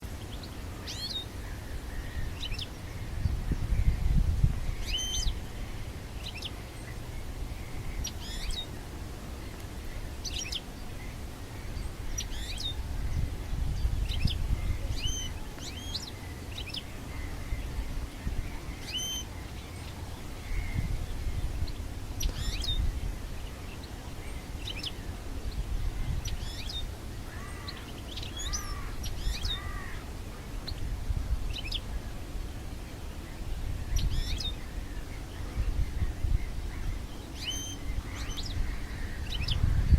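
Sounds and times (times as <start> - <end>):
goldfinch chirping: 0.2 - 3.1, 4.7 - 9.6, 10.2 - 30.9, 31.5 - 32.0, 33.8 - 39.9.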